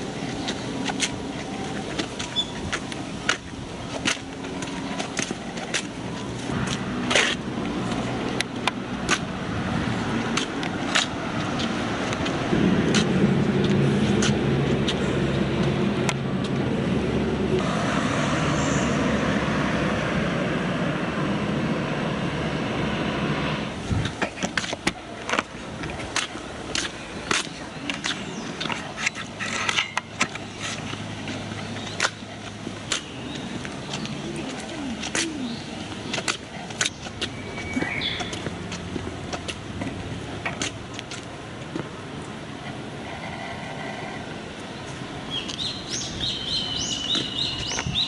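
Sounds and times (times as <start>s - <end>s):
engine droning: 0.0s - 48.0s.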